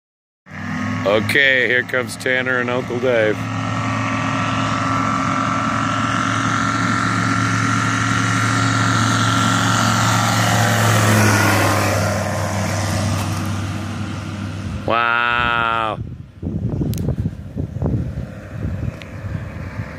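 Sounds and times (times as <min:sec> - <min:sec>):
light plane engine and propeller: 0:00.5 - 0:19.9.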